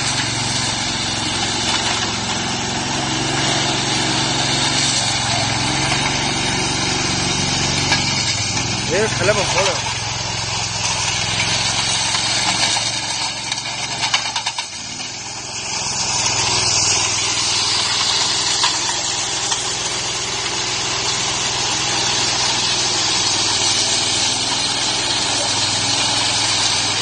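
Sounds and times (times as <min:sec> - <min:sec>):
power trowel engine running: 0:00.0 - 0:27.0.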